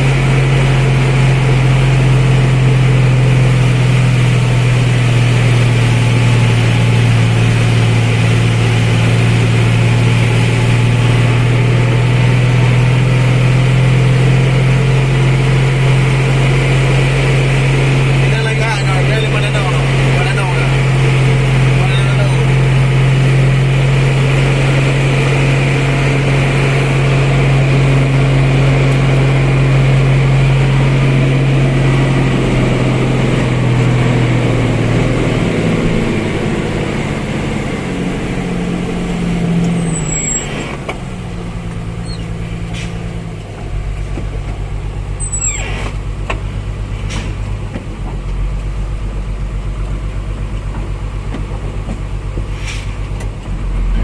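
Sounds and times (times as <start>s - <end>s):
truck engine under load: 0.0s - 54.0s.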